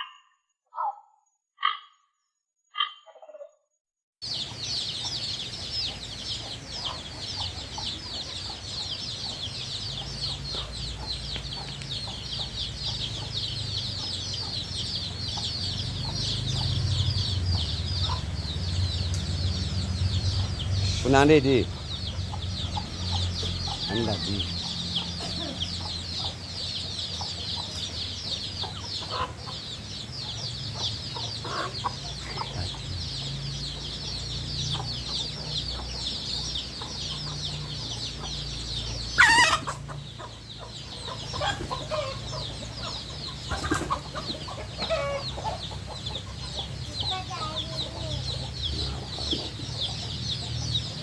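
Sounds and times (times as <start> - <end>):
loud bird call: 4.2 - 50.9
chicks peeping: 4.2 - 51.0
lower bird calls: 4.2 - 51.0.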